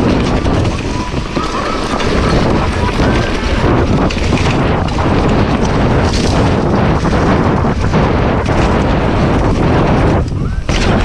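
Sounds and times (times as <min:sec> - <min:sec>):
scattered knocks: 0:00.0 - 0:11.0
wind buffeting microphone: 0:00.0 - 0:11.0.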